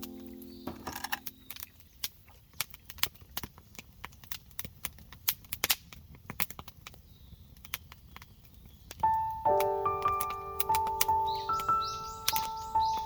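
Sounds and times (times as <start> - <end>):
sharp clicks and pops: 0.0 - 7.0, 7.6 - 13.0.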